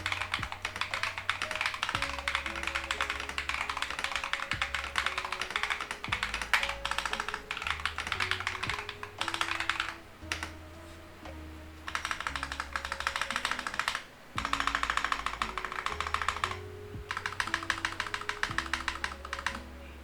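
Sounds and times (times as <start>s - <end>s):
fast typing on mechanical keyboard: 0.0s - 10.6s, 11.9s - 19.7s
background music: 0.0s - 20.0s.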